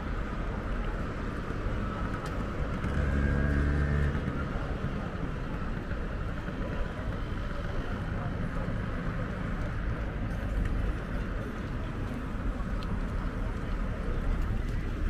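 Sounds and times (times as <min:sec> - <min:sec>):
motor vehicle engine hum: 0:00.0 - 0:15.0
street traffic rumble: 0:00.0 - 0:15.0.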